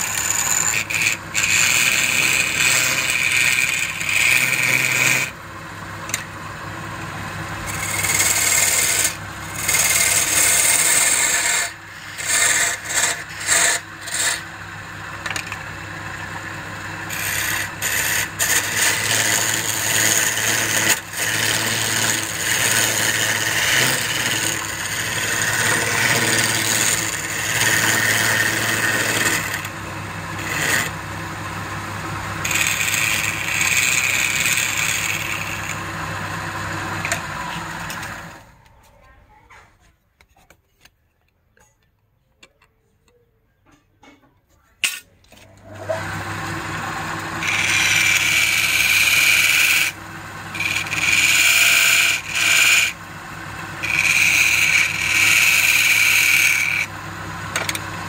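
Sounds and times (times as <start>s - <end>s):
wood lathe motor hum: 0.0s - 38.5s, 45.4s - 58.0s
turning tool scraping wood: 0.0s - 39.1s, 44.8s - 58.0s.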